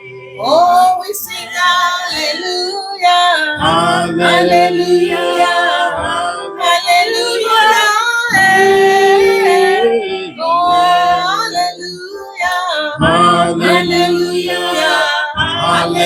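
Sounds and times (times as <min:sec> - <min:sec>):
woman singing long notes: 0:00.0 - 0:16.0.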